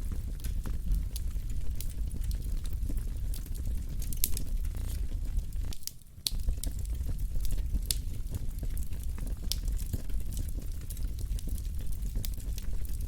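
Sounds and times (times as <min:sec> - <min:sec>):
low steady fire rumble: 0:00.0 - 0:13.0
wood fire crackling: 0:00.0 - 0:13.0.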